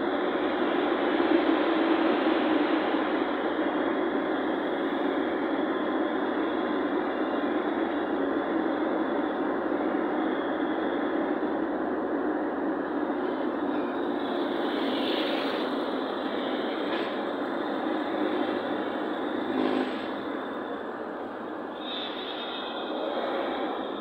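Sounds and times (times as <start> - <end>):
vehicle road and engine noise: 0.0 - 24.0.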